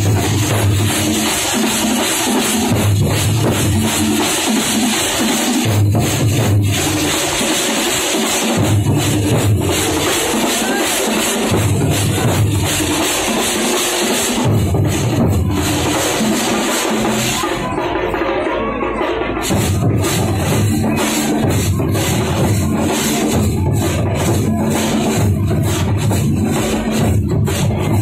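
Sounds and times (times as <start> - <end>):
drumming with sticks: 0.0 - 28.0
heavy low drum strokes: 0.0 - 28.0.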